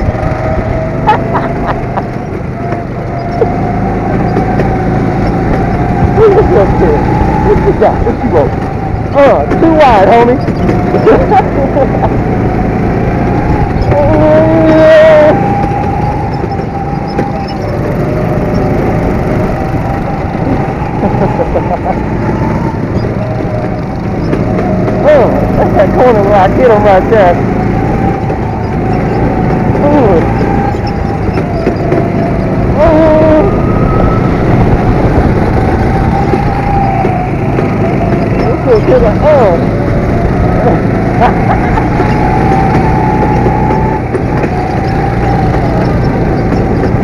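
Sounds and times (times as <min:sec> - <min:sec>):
go-kart engines racing: 0:00.0 - 0:47.0
wind rushing over microphone: 0:00.0 - 0:47.0.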